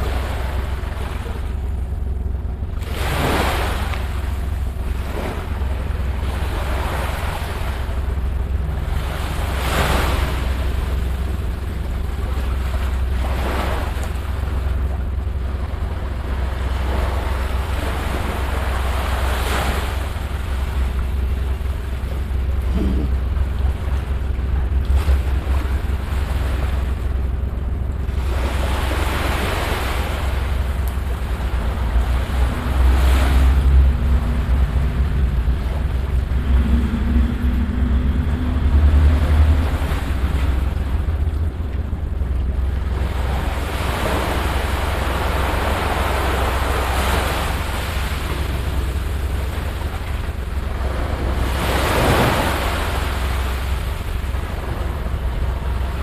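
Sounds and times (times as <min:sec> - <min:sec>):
small waves washing up a shore: 0:00.0 - 0:56.0
wind rumble on the microphone: 0:00.0 - 0:56.0.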